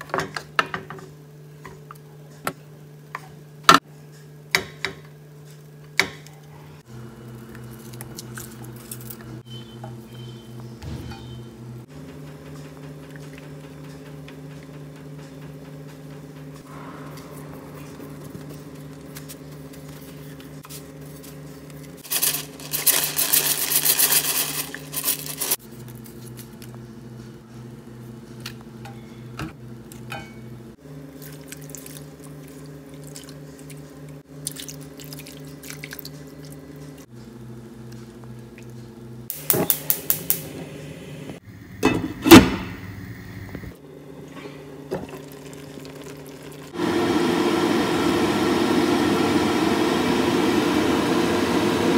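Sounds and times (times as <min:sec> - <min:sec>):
kitchen appliance humming: 0:05.9 - 0:51.9.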